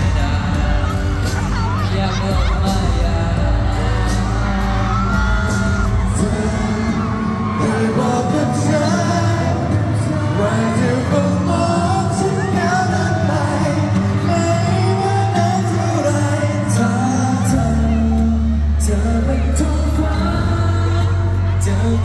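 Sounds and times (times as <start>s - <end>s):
amplified backing music: 0.0s - 22.0s
man singing: 0.0s - 22.0s.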